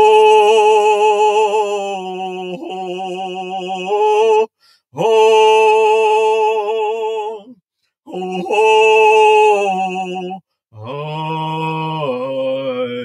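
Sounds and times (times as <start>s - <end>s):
person singing a chant: 0.0s - 13.0s.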